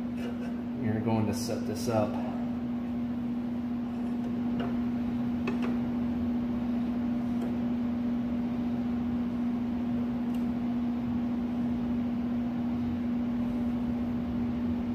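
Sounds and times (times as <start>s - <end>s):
low mechanical hum: 0.0s - 14.9s.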